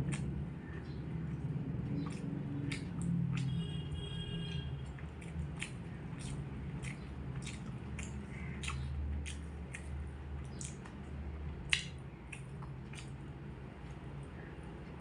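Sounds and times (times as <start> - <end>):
chewing with wet mouth smacks: 0.0 - 15.0
low steady hum: 0.0 - 15.0.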